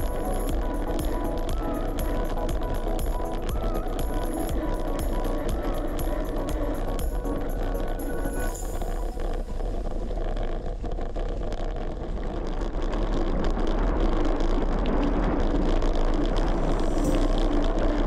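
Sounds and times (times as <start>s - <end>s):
bicycle tyre rolling: 0.0s - 18.0s
wind buffeting microphone: 0.0s - 18.0s.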